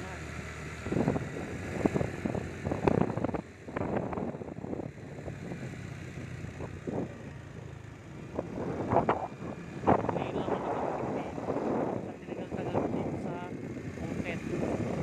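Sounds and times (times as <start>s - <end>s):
motorbike engine rumble: 0.0s - 15.0s.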